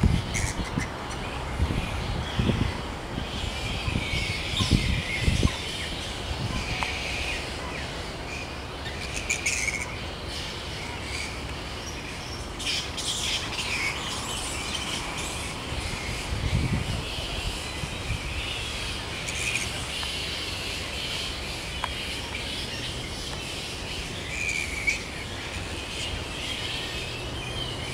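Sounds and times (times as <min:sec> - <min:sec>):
flying foxes squeaking and squealing: 0:00.0 - 0:27.9.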